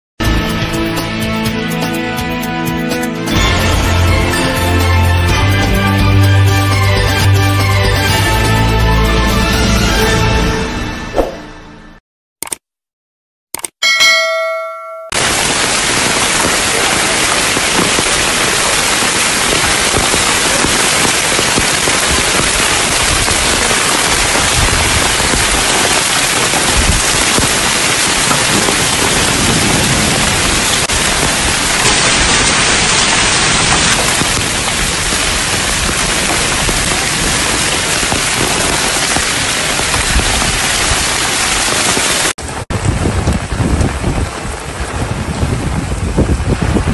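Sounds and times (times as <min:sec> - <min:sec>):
heavy rain on pavement: 0:03.3 - 0:09.4, 0:15.1 - 0:46.9.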